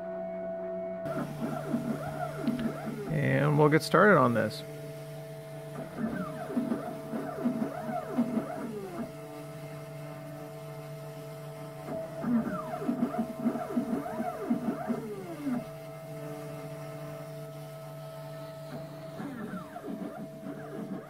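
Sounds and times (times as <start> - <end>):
router spindle humming: 1.0 - 21.0
stepper motors whining: 1.0 - 21.0.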